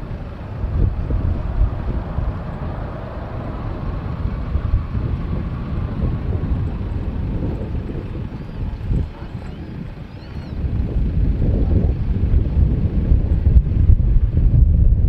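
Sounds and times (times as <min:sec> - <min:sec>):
jet engines taxiing: 0:00.0 - 0:15.0.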